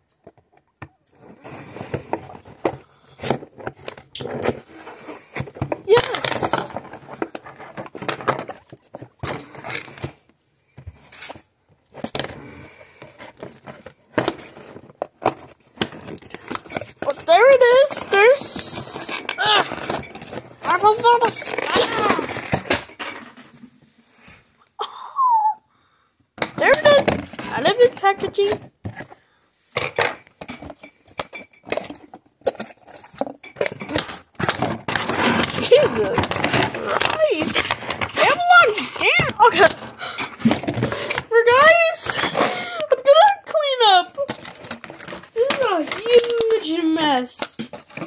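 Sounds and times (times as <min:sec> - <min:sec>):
toy packaging crinkling and rustling: 0:00.1 - 0:10.3, 0:10.9 - 0:23.6, 0:26.4 - 0:48.0.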